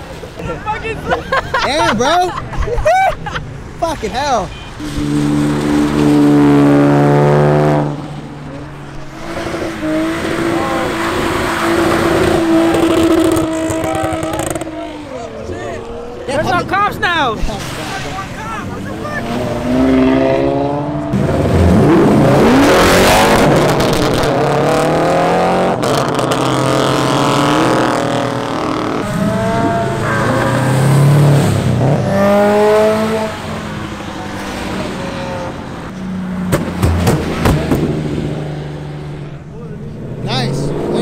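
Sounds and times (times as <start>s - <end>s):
car engines revving past: 4.7s - 41.0s.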